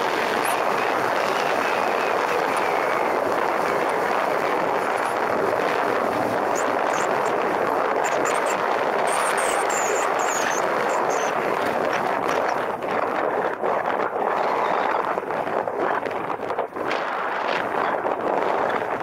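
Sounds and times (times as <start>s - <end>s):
wind rushing: 0.0s - 19.0s.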